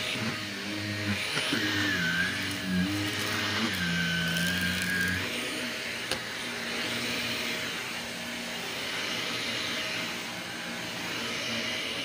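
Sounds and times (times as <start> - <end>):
stick vacuum running: 0.0 - 12.0.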